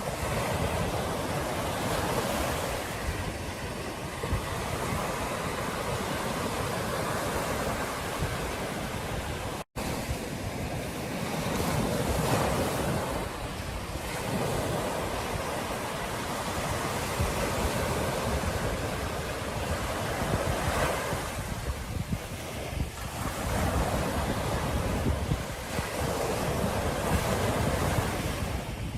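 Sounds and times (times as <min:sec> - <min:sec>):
ocean surf washing onto beach: 0:00.0 - 0:28.9
wind buffeting microphone: 0:00.0 - 0:28.9.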